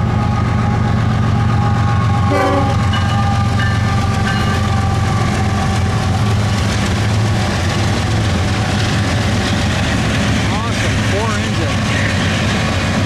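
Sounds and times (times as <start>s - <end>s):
diesel locomotive engines droning: 0.0s - 13.0s
train rumbling on rails: 0.0s - 13.0s.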